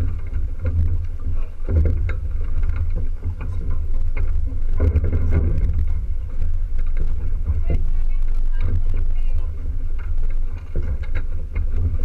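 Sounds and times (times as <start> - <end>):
water splashing against hull: 0.0 - 12.0
wind buffeting microphone: 0.0 - 12.0.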